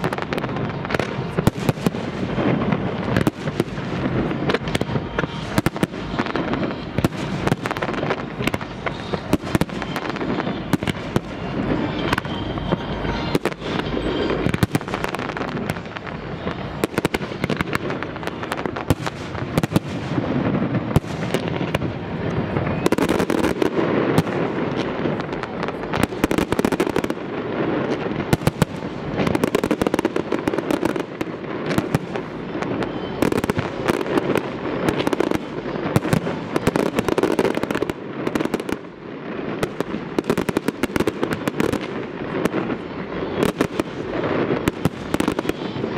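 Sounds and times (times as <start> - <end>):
fireworks bursting: 0.0 - 45.9.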